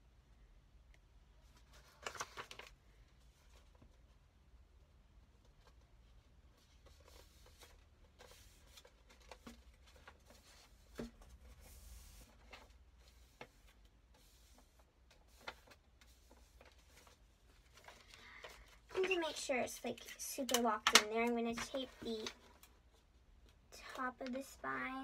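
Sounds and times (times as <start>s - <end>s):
paper rustling and folding: 1.4s - 4.2s, 5.2s - 24.8s.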